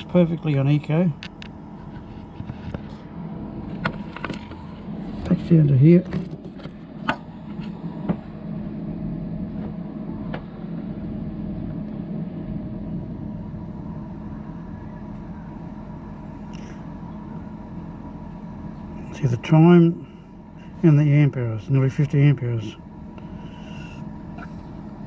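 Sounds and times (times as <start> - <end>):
fridge compressor and fan humming: 0.0 - 25.0.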